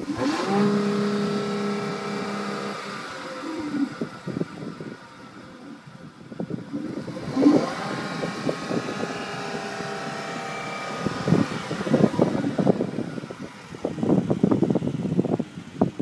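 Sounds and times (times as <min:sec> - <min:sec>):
car exhaust revving and rumbling: 0:00.0 - 0:16.0.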